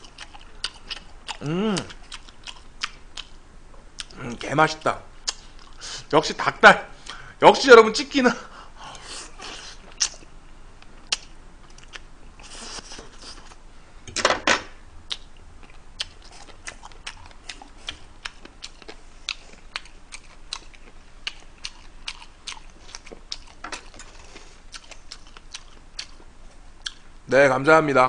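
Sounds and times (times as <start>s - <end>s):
man chewing food: 0.0s - 4.5s, 5.1s - 6.1s, 8.7s - 13.7s, 15.0s - 27.2s.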